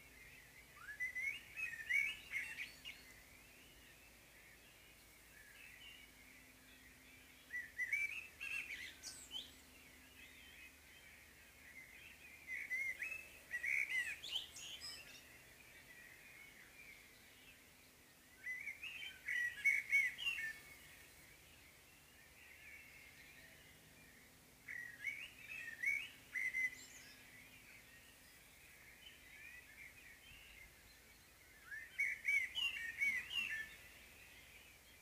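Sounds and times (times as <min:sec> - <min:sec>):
blackbird singing: 0:00.0 - 0:35.0.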